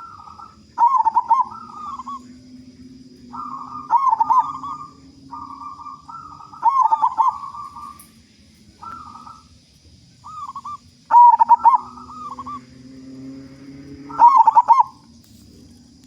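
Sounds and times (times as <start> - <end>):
dove cooing: 0.0 - 9.6, 10.2 - 16.0.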